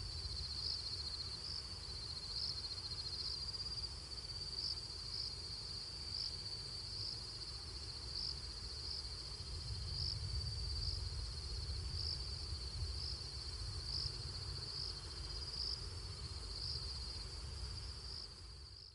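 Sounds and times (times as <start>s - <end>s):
insect chirps: 0.0s - 18.9s.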